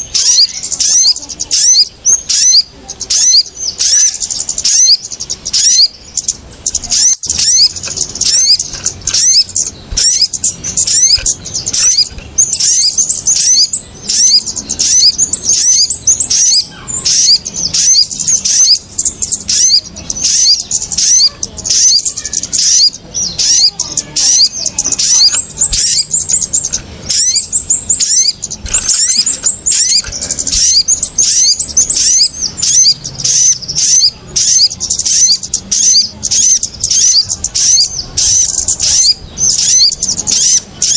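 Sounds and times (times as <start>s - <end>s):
agitated bird chatter: 0.0s - 40.9s.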